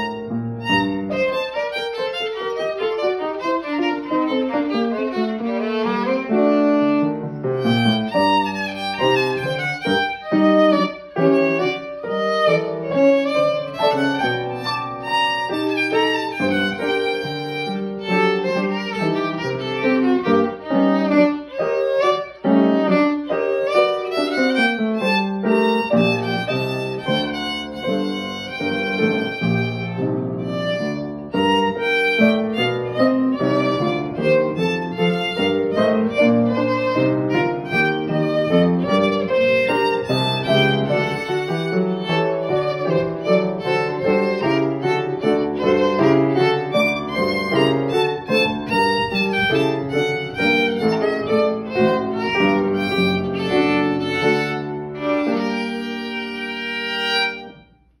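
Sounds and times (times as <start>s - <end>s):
solo violin: 0.0s - 58.0s.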